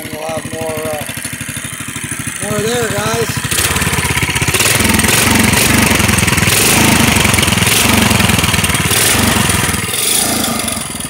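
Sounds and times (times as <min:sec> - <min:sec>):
go-kart engine revving: 0:00.0 - 0:11.0.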